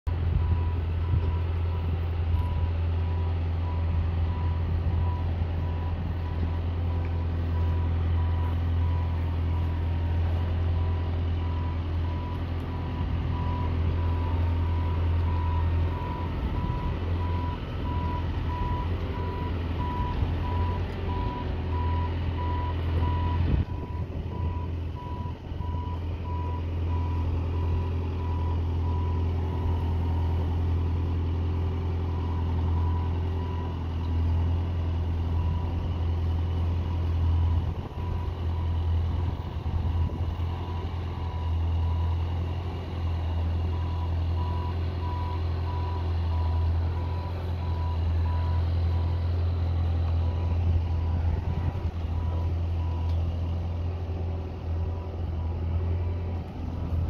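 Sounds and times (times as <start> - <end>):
truck engine running: 0.1 - 57.0
reversing alarm beeps: 0.3 - 31.1, 31.8 - 34.2, 35.1 - 53.3.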